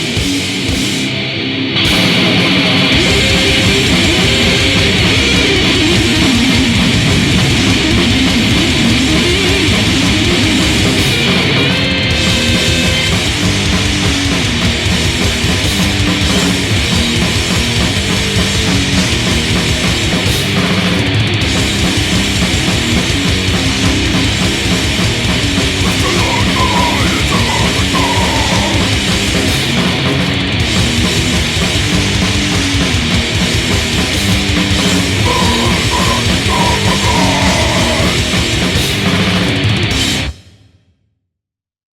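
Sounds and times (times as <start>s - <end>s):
heavy punk metal band playing: 0.0s - 40.4s.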